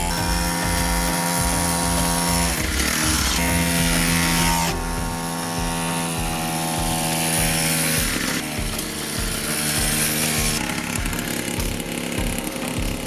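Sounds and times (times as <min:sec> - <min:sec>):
minibike engine high-revving buzz: 0:00.0 - 0:13.0.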